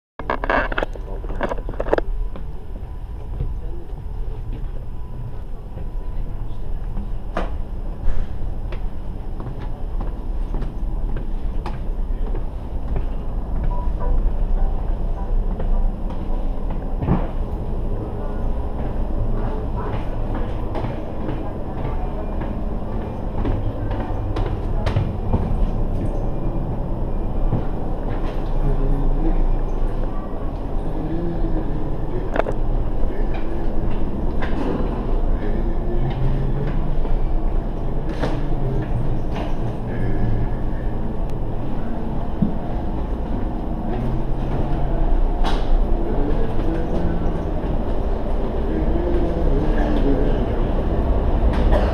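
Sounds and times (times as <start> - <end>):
ferry engines rumbling: 0.2 - 51.9.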